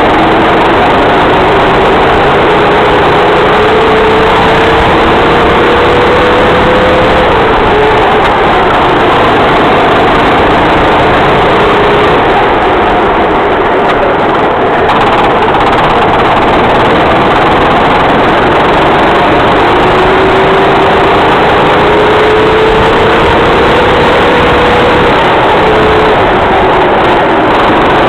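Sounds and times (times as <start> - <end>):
racing kart engine running: 0.0 - 28.0.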